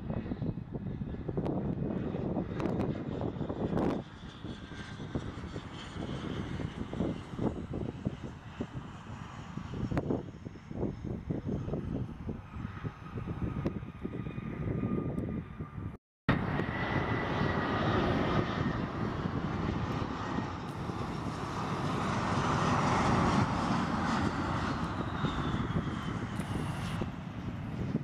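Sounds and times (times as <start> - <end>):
another jet on runway: 0.0 - 28.0
jet engines rushing: 0.0 - 28.0.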